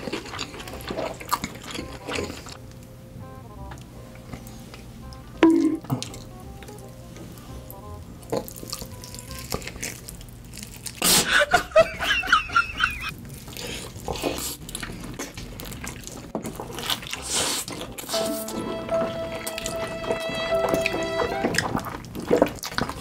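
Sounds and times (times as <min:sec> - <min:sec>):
quiet background music: 0:00.0 - 0:11.0, 0:15.6 - 0:23.0.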